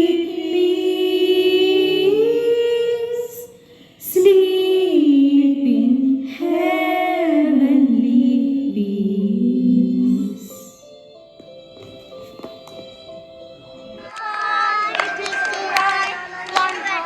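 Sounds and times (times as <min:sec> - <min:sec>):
high voices singing a carol: 0:00.0 - 0:17.0.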